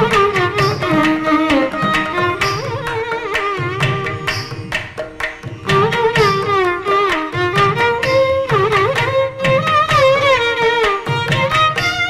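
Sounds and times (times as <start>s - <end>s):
violin melody sliding between notes: 0.0s - 12.0s.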